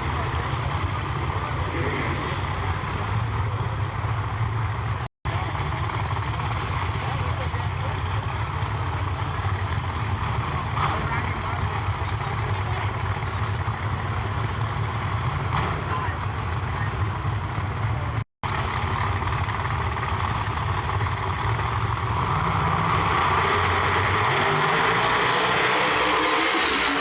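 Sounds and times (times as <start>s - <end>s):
race car engines rumbling: 0.0s - 27.0s.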